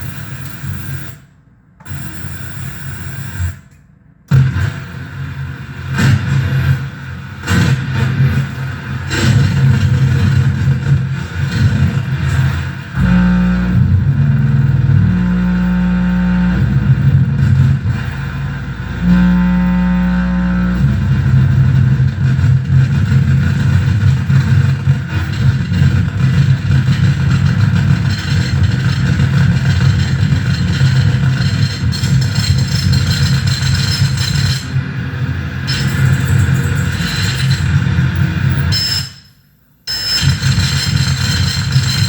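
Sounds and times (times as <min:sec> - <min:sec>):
electronic noise drone: 0:00.0 - 0:42.0.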